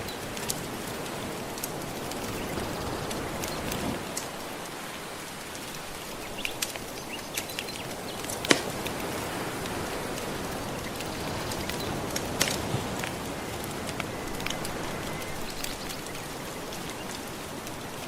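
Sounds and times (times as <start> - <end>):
soft ocean waves: 0.0 - 18.0
wood fire crackling: 0.0 - 18.0.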